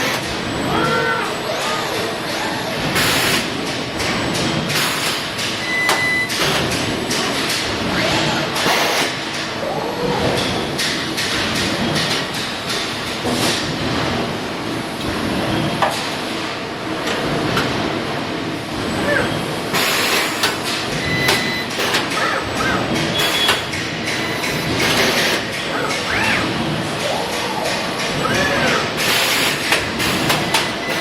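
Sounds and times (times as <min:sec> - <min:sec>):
industrial din: 0:00.0 - 0:31.0.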